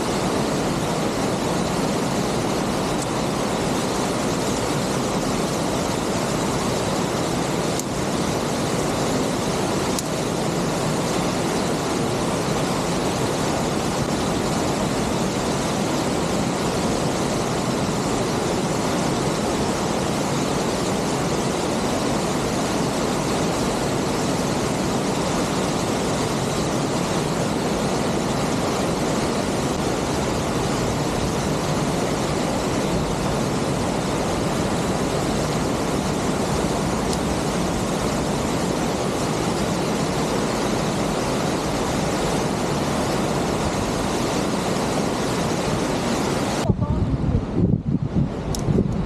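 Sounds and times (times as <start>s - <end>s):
waterfall rushing: 0.0s - 47.4s.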